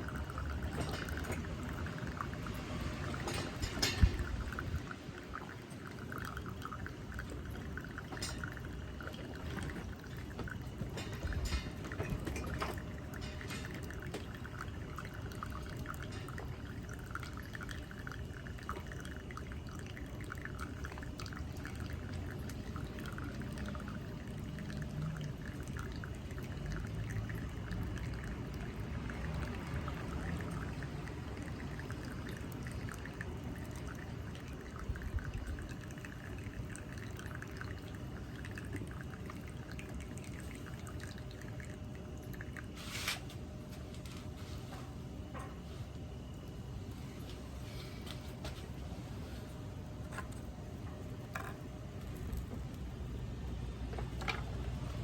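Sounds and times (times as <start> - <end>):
water pouring from a kettle: 0.0 - 55.0.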